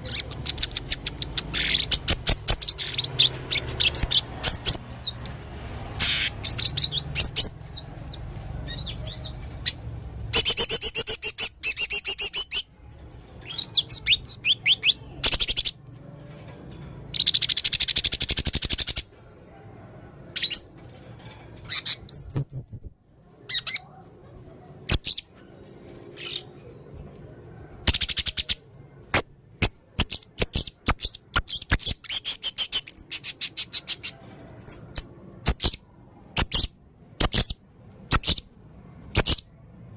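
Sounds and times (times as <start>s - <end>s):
parrot chirping and trilling: 0.0s - 19.2s, 20.3s - 26.9s, 27.7s - 39.9s.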